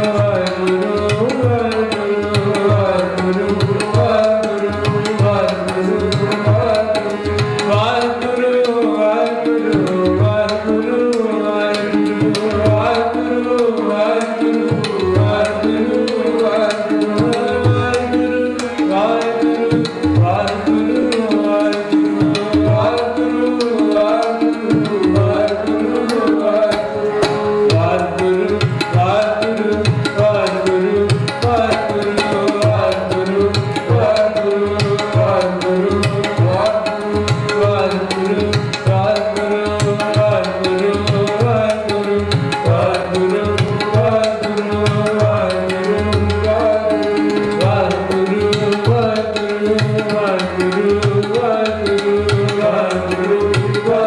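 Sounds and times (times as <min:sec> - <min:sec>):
droning harmoniums: 0:00.0 - 0:54.0
man singing: 0:00.0 - 0:54.0
tabla playing fast rhythm: 0:00.0 - 0:54.0.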